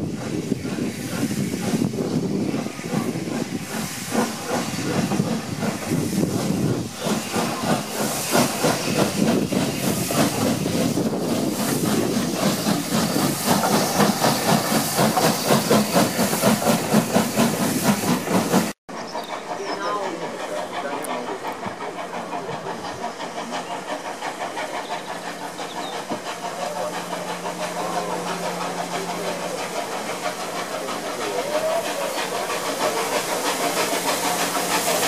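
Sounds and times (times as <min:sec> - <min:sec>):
steam hissing: 0:00.0 - 0:35.0
steam locomotive chuffing: 0:00.0 - 0:35.0.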